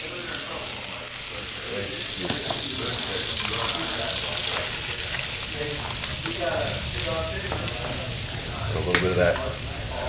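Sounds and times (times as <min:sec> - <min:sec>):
fish sizzling in skillet: 0:00.0 - 0:10.0.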